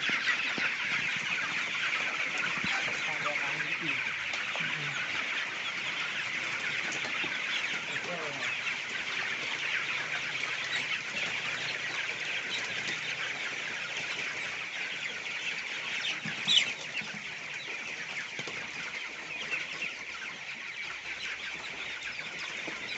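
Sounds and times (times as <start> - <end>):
chickens cheeping and clucking: 0.0 - 22.9.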